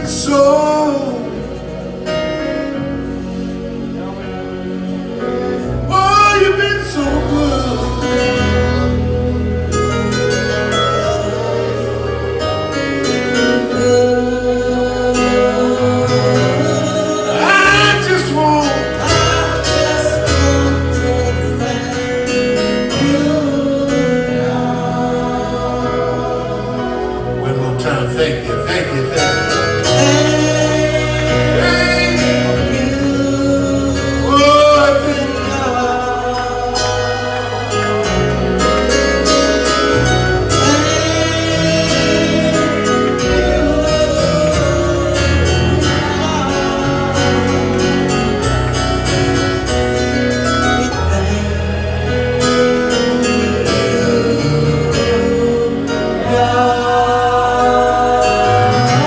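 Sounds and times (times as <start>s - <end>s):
bass line: 0.0s - 59.0s
people singing: 0.0s - 59.0s
worship band playing chords: 0.0s - 59.0s.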